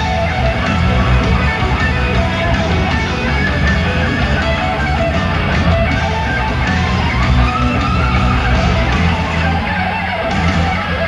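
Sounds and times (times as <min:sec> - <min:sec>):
heavy metal band playing: 0:00.0 - 0:11.0
lead guitar bending note: 0:00.0 - 0:11.0.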